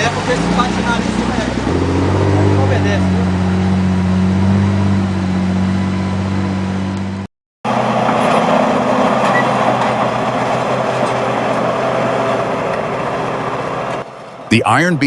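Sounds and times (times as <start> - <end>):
heavy vehicle engine running: 0.0 - 14.6
noisier engine: 0.0 - 15.0.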